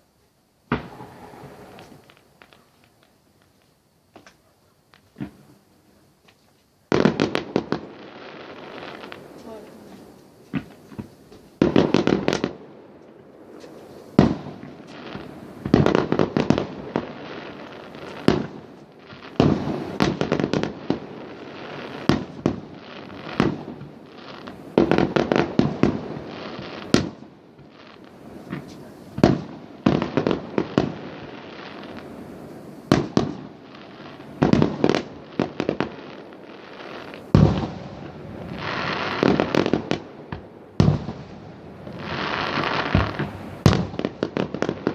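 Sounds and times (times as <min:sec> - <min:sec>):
fireworks banging and crackling: 0:00.0 - 0:44.9.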